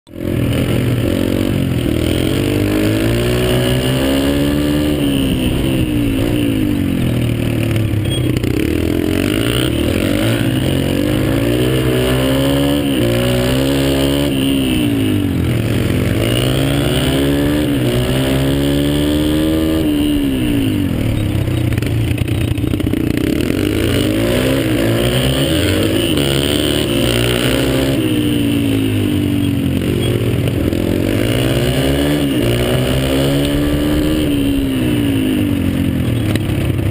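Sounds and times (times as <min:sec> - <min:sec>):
dirt bike engine revving: 0:00.1 - 0:36.9.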